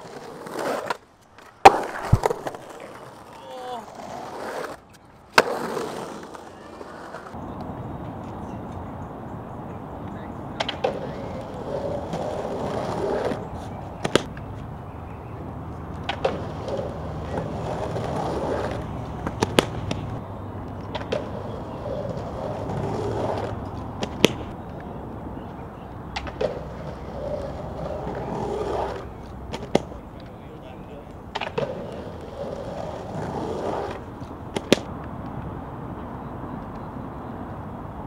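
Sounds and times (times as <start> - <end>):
skateboard clacks: 0.0 - 8.9, 10.0 - 14.6, 15.8 - 25.0, 25.8 - 35.5
skateboard wheels rolling on concrete: 0.0 - 38.0.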